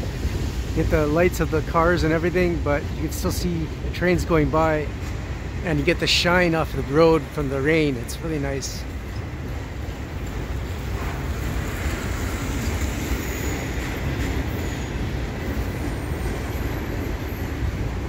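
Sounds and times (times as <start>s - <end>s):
freight train wheels on bridge: 0.0s - 18.0s.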